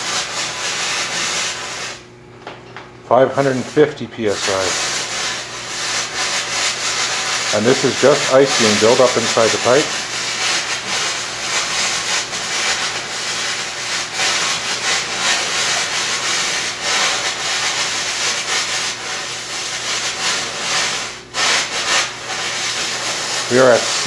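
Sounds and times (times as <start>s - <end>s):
gas hissing rush: 0.0s - 2.1s, 3.2s - 24.0s.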